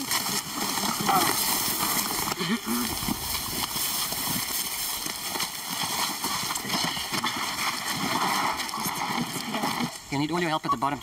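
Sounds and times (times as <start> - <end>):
footsteps in dry grass: 0.0 - 10.1.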